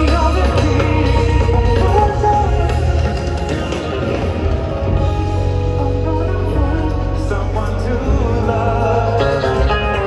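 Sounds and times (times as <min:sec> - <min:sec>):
heavy bass line: 0:00.0 - 0:10.0
live band over pa: 0:00.0 - 0:10.0
man singing: 0:00.0 - 0:10.0.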